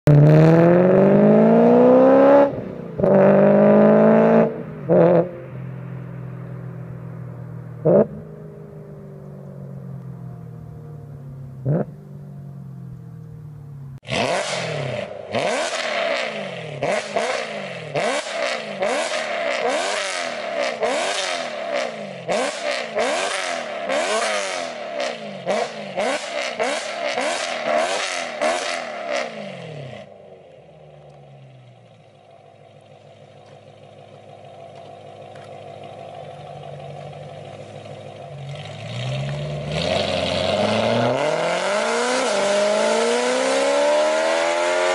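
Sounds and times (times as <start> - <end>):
car engine accelerating: 0.0 - 44.9
car exhaust throttle blips: 0.1 - 43.2
exhaust crackles: 0.1 - 44.3.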